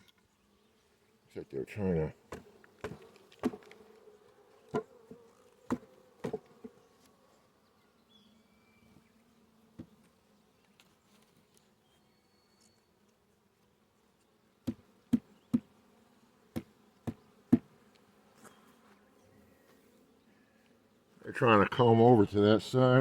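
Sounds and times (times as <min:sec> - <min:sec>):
honeybees buzzing: 0:00.2 - 0:11.8, 0:12.8 - 0:23.0.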